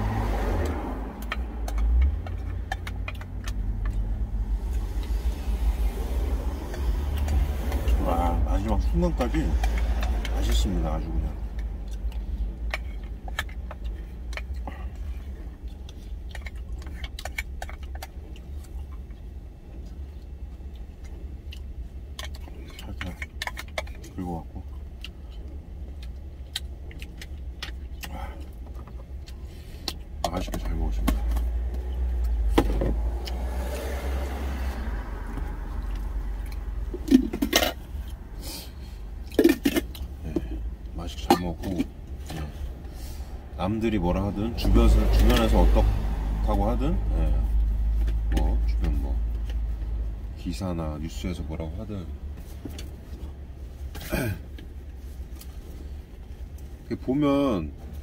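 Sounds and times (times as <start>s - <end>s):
truck engine hum: 0.0s - 58.0s.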